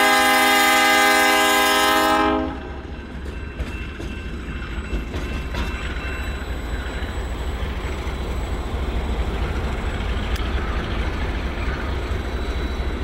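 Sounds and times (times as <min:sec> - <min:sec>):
locomotive and wheels rumbling: 0:00.0 - 0:13.0.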